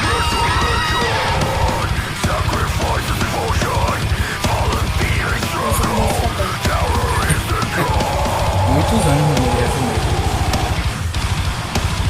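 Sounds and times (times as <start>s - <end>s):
fast pounding drum beat: 0.0s - 12.0s
thrash metal song: 0.0s - 12.0s.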